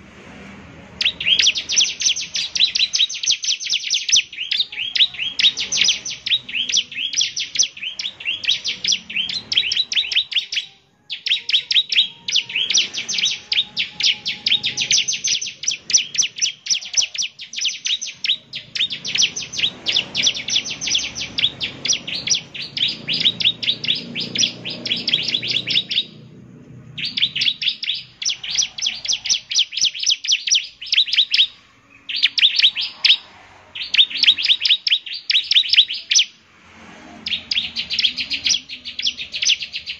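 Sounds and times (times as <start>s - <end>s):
bird rapid high chirping: 0.9s - 36.4s, 37.2s - 39.9s.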